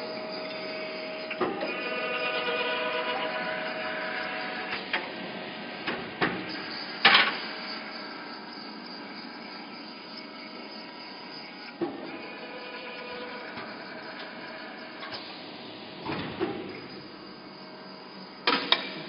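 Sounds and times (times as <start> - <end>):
machine whine: 0.0 - 19.0.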